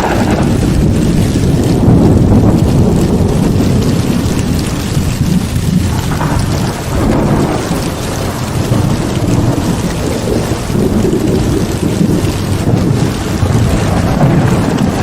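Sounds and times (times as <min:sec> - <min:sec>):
deep thunder rumbling: 0:00.0 - 0:15.0
heavy rain pouring: 0:00.0 - 0:15.0.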